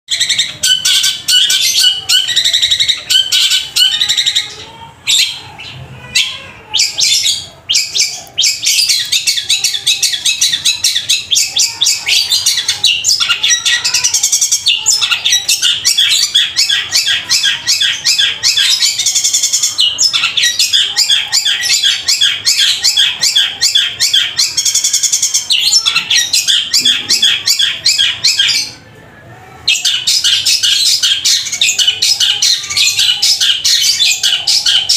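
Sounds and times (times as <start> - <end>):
bird singing harsh high chirps: 0.1 - 28.8, 29.6 - 34.9.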